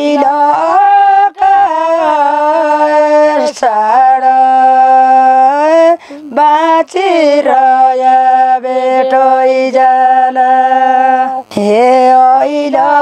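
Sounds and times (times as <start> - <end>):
woman singing unaccompanied folk song: 0.0 - 13.0.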